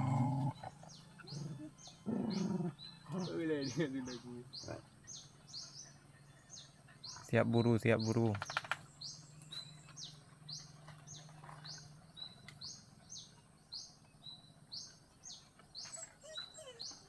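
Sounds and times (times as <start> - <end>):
small bird calling: 0.0 - 17.0.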